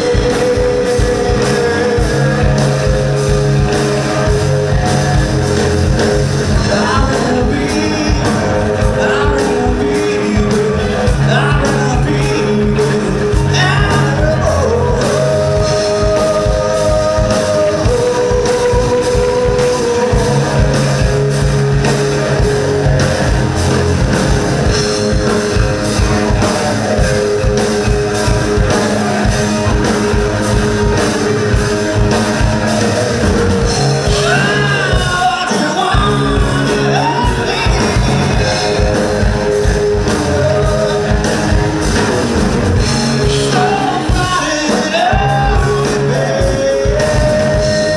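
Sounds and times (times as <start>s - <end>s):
person singing: 0.0s - 24.1s, 24.7s - 47.9s
live rock band playing: 0.0s - 47.9s.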